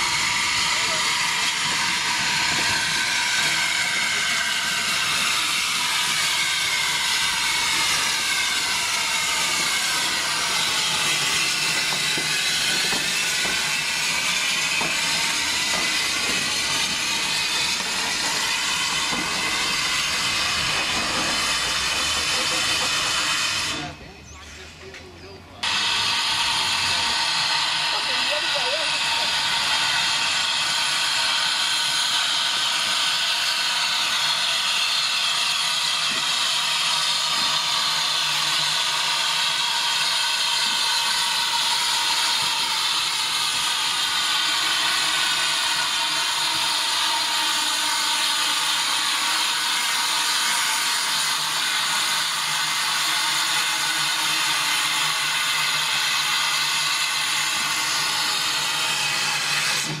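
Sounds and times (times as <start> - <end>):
steam train hissing: 0.0 - 60.0.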